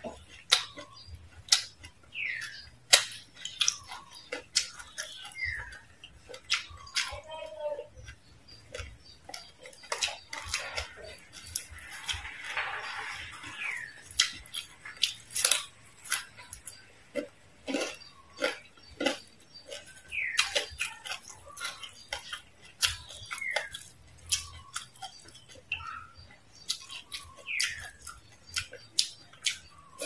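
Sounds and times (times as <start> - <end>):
crunching and chewing: 0.0 - 30.0.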